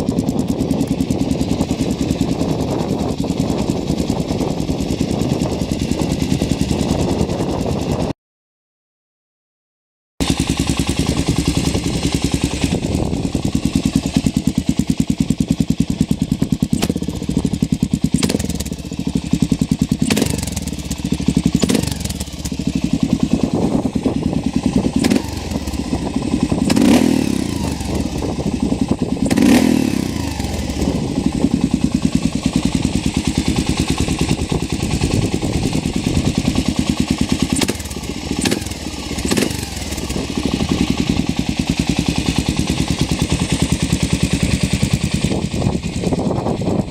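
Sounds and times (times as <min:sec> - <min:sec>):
motorcycle engine while riding: 0:00.0 - 0:08.2, 0:10.2 - 0:46.9.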